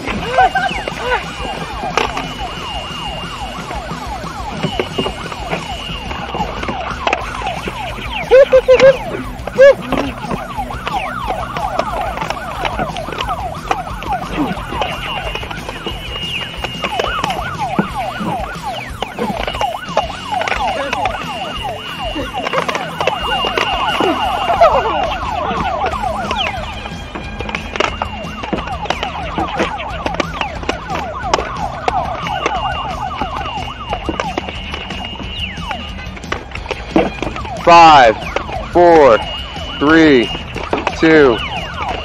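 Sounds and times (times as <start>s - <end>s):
electronic siren-like warbling: 0.0s - 42.0s.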